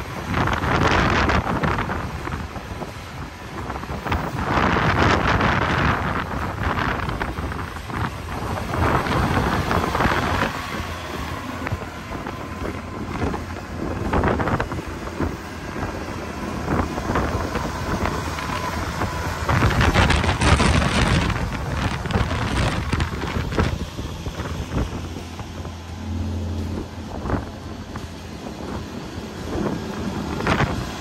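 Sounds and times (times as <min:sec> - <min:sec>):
deep rumble: 0:00.0 - 0:31.0
wind buffeting microphone: 0:00.0 - 0:31.0.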